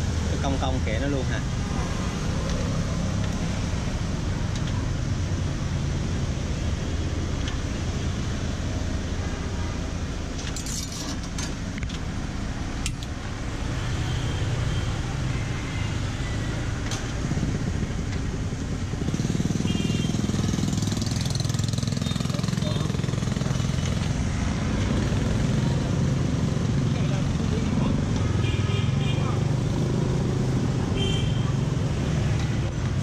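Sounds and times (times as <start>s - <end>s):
traffic engines running: 0.0s - 33.0s.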